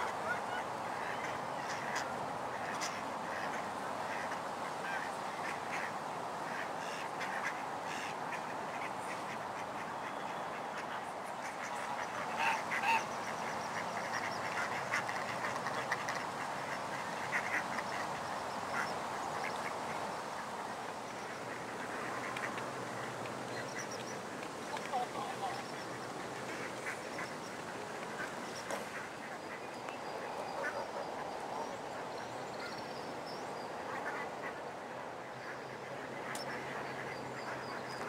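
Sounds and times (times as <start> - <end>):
ducks quacking: 0.0 - 20.0, 21.1 - 38.0
steady background hiss: 0.0 - 38.0.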